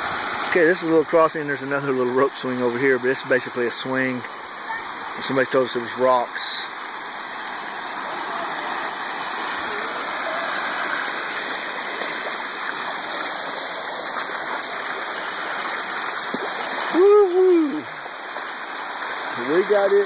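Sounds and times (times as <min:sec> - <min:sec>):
water rushing over concrete edge: 0:00.0 - 0:20.0.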